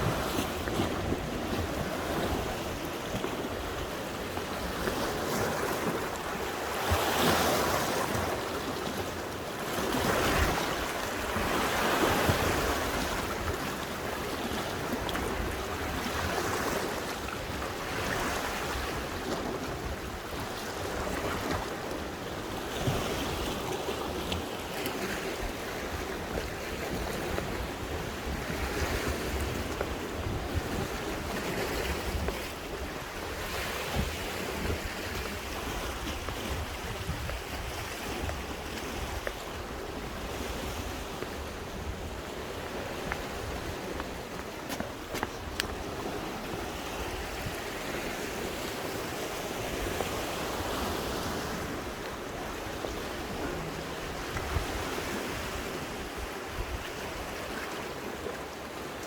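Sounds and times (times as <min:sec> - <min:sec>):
wind rumbling on microphone: 0:00.0 - 0:58.4
sea waves washing ashore: 0:00.0 - 0:59.0.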